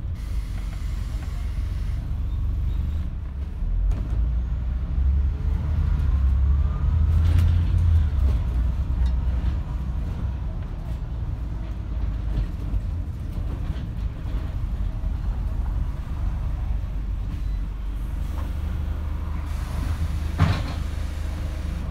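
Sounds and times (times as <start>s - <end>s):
bus diesel engine droning: 0.0s - 21.9s.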